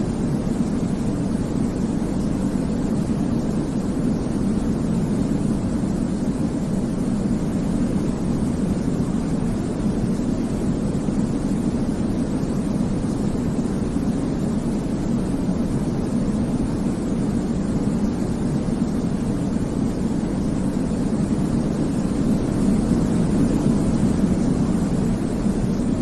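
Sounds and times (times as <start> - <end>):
deep white noise: 0.0 - 26.0.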